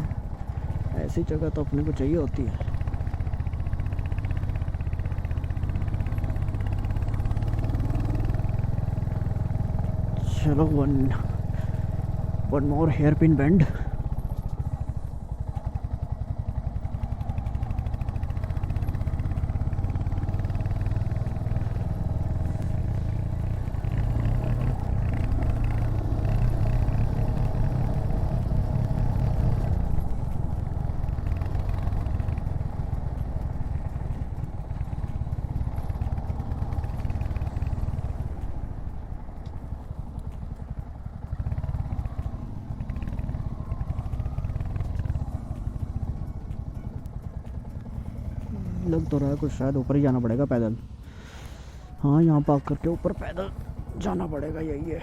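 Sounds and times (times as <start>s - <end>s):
motorcycle engine exhaust pulsing: 0.0s - 55.0s.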